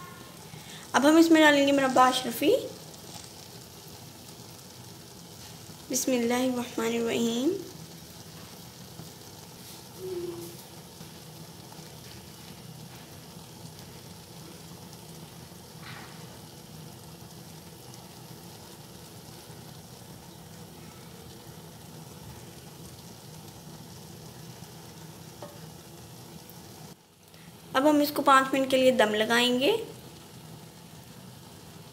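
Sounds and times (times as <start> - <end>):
low sizzle from a pot: 0.0 - 31.9.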